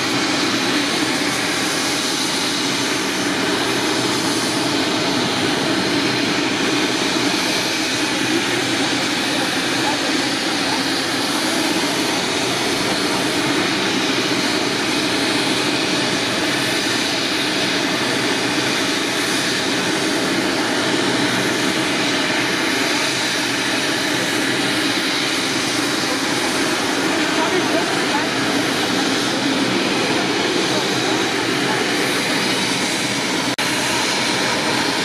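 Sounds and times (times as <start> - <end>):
helicopter running: 0.0 - 35.0
high turbine whine: 0.0 - 35.0.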